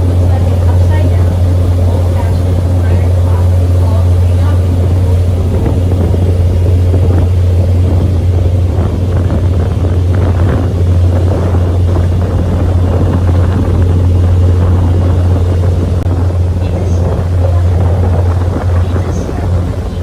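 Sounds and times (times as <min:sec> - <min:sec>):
boat engine droning: 0:00.0 - 0:20.0
wind buffeting microphone: 0:00.0 - 0:20.0.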